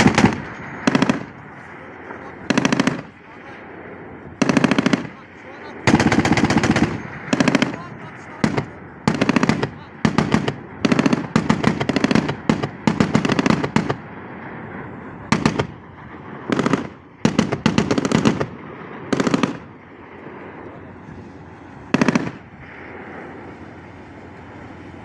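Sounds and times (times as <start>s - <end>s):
anti-aircraft gun firing bursts: 0.0s - 14.5s, 15.3s - 20.6s, 21.4s - 25.0s.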